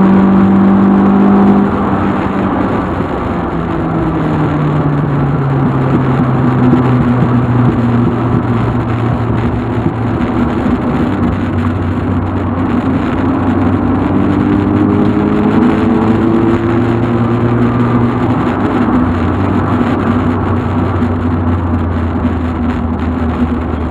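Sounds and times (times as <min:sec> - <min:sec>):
car engine running: 0:00.0 - 0:23.9
road noise: 0:00.0 - 0:23.9.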